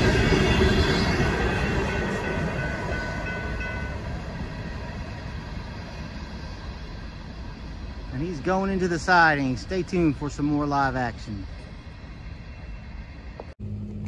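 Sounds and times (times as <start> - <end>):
freight train rolling on rails: 0.0 - 14.0.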